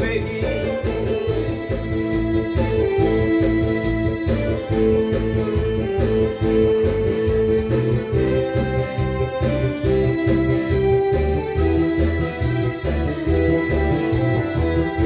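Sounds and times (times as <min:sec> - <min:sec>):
electronic keyboard melody: 0:00.0 - 0:15.0
steady beat: 0:00.0 - 0:15.0.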